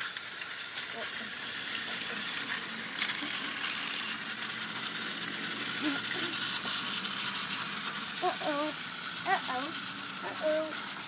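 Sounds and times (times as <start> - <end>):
toy train whirring: 0.0 - 11.0.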